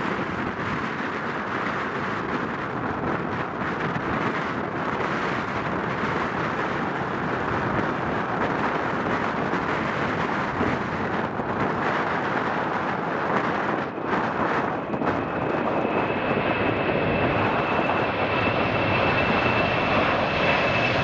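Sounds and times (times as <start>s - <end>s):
jet engines rumbling: 0.0s - 21.0s
wind on microphone: 0.0s - 21.0s.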